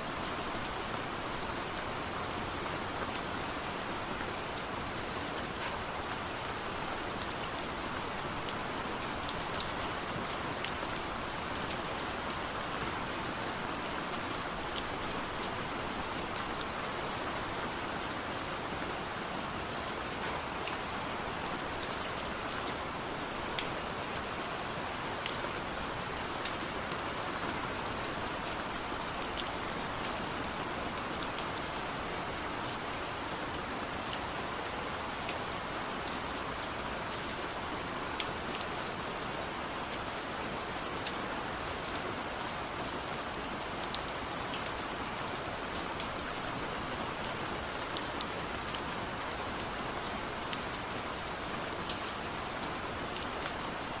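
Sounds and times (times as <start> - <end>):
raindrops ticking on a surface: 0.2 - 54.0.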